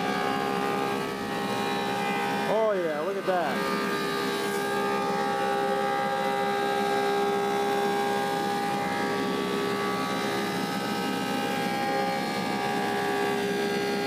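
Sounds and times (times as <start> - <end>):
planer machine humming: 0.0 - 14.0.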